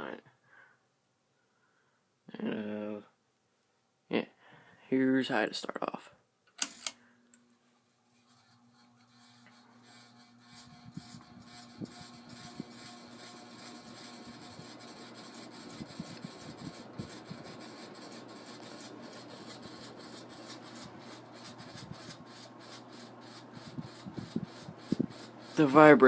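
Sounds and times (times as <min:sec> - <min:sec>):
ceiling fan whirring: 0:04.5 - 0:26.0.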